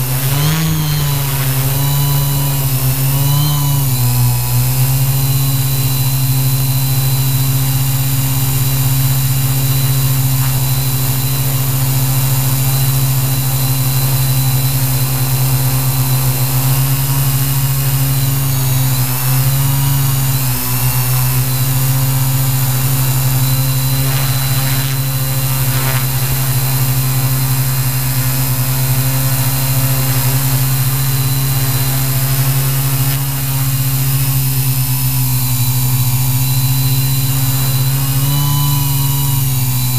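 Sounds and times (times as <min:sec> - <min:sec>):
drone propellers humming: 0:00.0 - 0:39.9.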